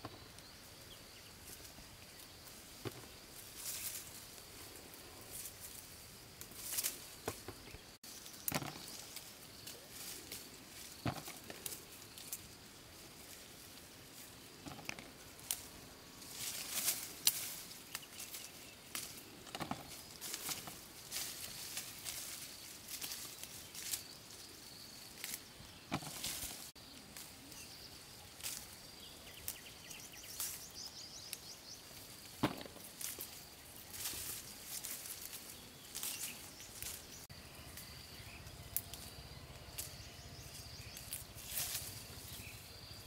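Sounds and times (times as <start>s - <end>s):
leaves and twigs rustling: 0.0s - 43.0s.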